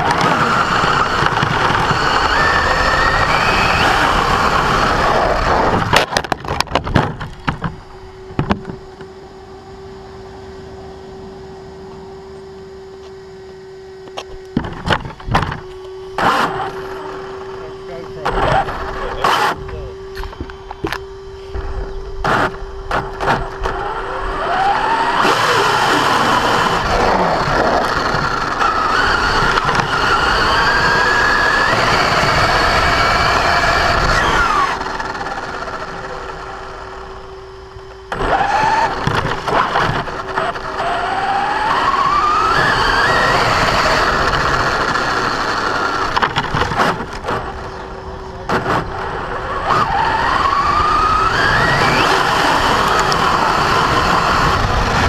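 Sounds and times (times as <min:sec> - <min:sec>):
drivetrain gears grinding: 0:00.0 - 0:55.0
electric motor whining: 0:00.0 - 0:55.0.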